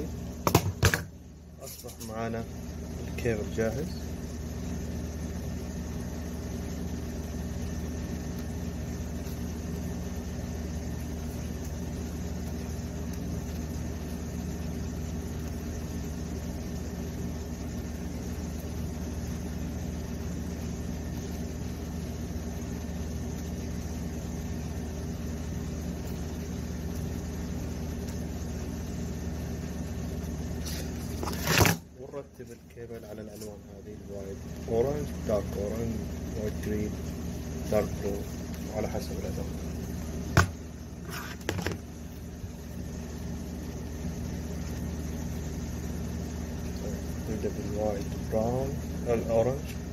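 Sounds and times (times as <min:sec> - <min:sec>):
low mechanical hum: 0:00.0 - 0:49.9.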